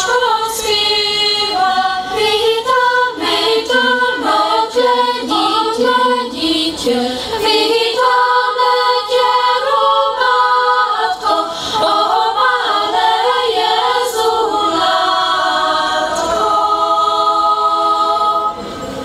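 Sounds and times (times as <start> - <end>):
choir singing a cappella: 0.0 - 19.0.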